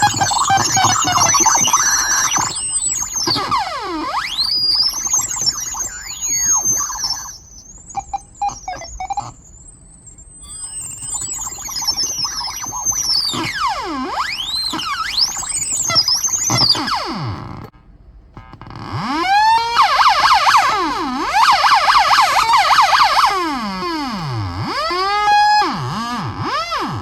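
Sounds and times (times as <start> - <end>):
electronic warbling tones: 0.0 - 17.7, 19.9 - 27.0.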